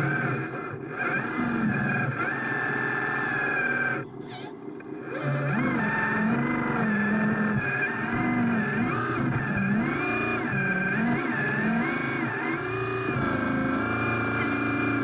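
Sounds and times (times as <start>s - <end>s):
toy motor whirring: 0.9s - 15.0s.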